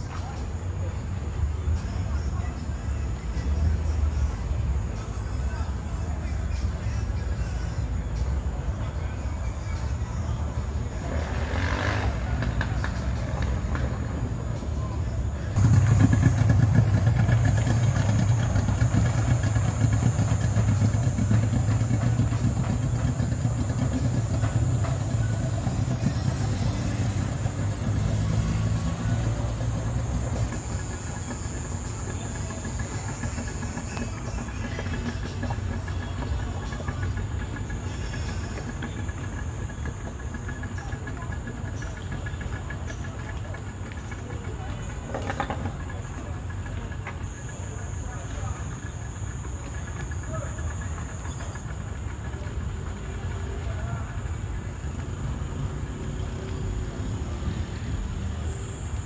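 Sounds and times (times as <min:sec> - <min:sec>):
engine running at low revs: 0:00.0 - 0:59.0.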